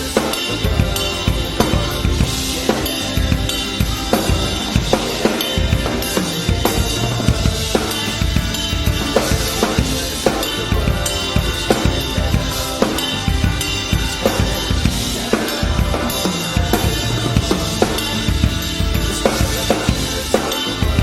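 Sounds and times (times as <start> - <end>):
electric guitar and bass: 0.0 - 21.0
rock drum kit: 0.0 - 21.0.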